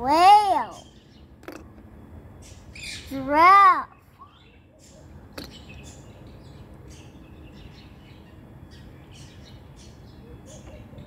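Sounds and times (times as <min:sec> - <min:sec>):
low outdoor rumble: 0:00.0 - 0:11.0
bird chirps: 0:00.6 - 0:03.2, 0:03.9 - 0:11.0.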